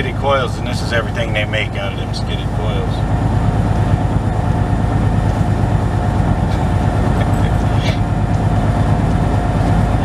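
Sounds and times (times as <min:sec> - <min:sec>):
diesel engine low rumble: 0:00.0 - 0:10.0
faint steady whine: 0:00.0 - 0:10.0.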